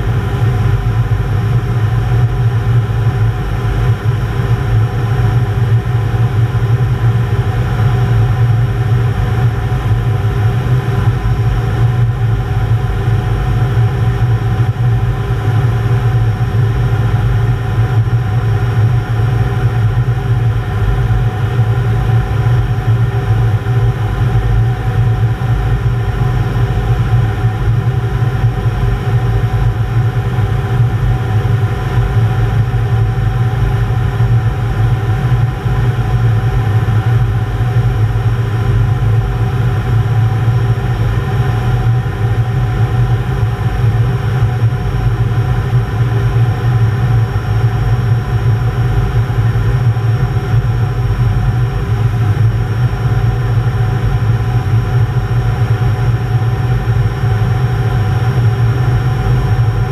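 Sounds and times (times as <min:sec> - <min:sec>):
jet engine drone: 0:00.0 - 0:59.9.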